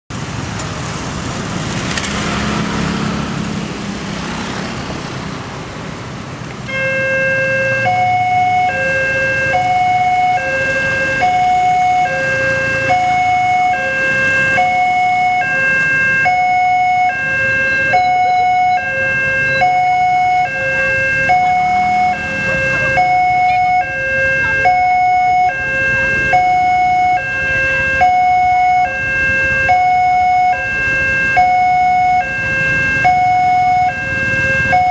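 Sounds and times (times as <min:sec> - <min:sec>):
road traffic: 0:00.1 - 0:34.9
two-tone crossing alarm: 0:06.7 - 0:34.9.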